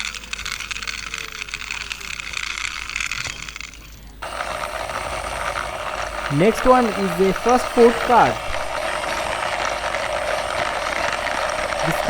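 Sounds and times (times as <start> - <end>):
plastic toy clicking and rattling: 0.0 - 12.0.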